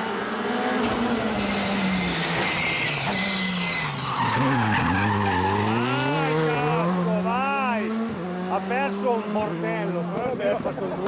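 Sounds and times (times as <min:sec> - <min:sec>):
rally car engine: 0:00.0 - 0:11.0.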